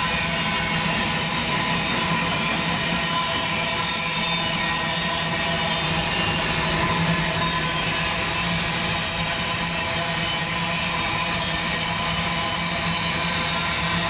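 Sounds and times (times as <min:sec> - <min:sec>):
freight train rumbling on track: 0:00.0 - 0:14.0.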